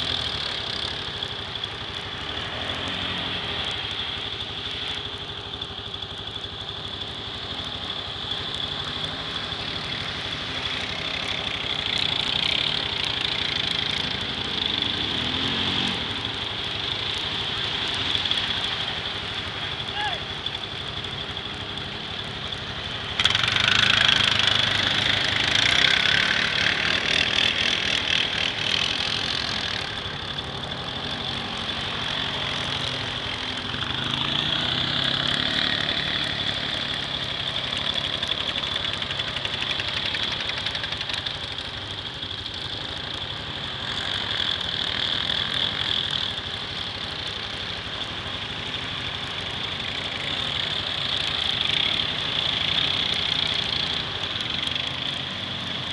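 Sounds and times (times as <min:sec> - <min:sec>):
atv engines running: 0:00.0 - 0:55.9.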